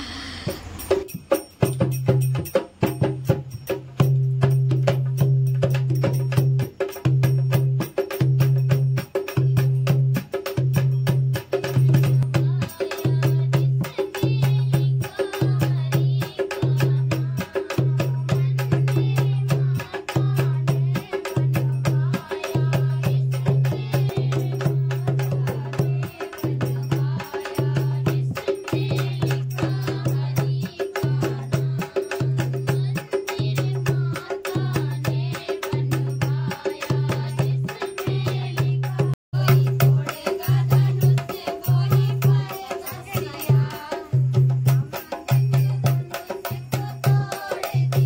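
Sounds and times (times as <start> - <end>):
women singing: 0.0 - 1.1, 6.0 - 48.0
hand drum beating: 0.6 - 48.0.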